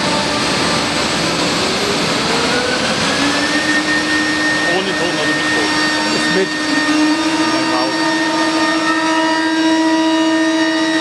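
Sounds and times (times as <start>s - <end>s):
machine whine: 0.0s - 11.0s
router spindle and dust extraction: 0.0s - 11.0s.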